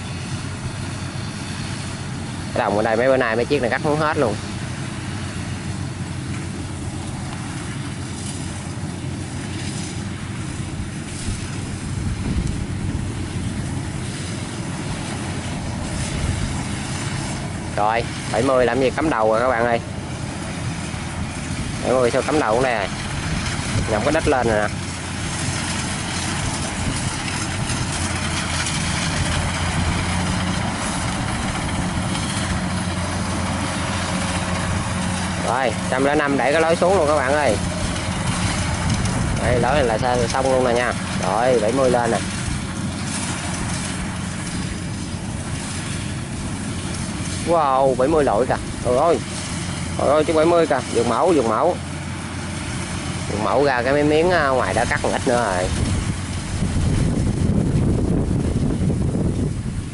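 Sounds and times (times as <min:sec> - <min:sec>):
combine harvester engine running: 0:00.0 - 0:59.9
wind buffeting microphone: 0:00.0 - 0:59.9.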